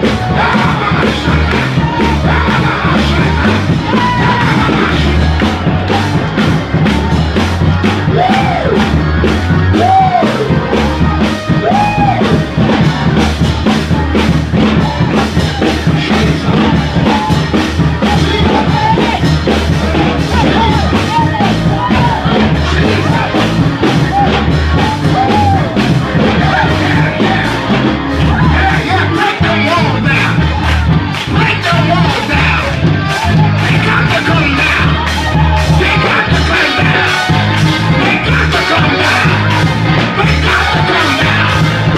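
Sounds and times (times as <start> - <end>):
fast steady drumbeat: 0.0 - 41.9
people singing and shouting: 0.0 - 41.9.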